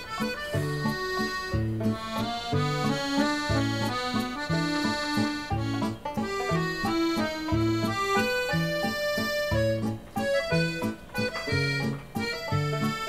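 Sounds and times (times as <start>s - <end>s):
accordion tune: 0.0s - 13.0s.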